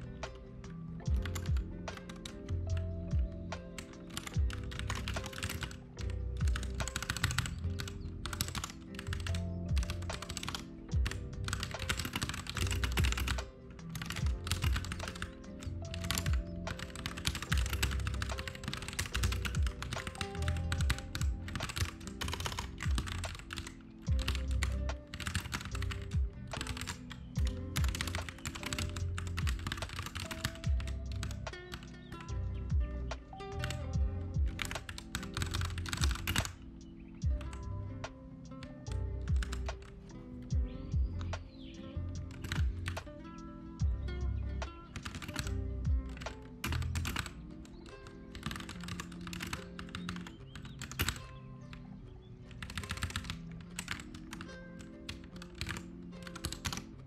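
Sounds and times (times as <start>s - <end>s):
lo-fi music with low beat: 0.0s - 57.0s
computer keyboard typing: 1.0s - 32.4s, 33.1s - 37.7s, 38.6s - 40.2s, 42.1s - 43.1s, 44.9s - 51.8s, 52.4s - 57.0s.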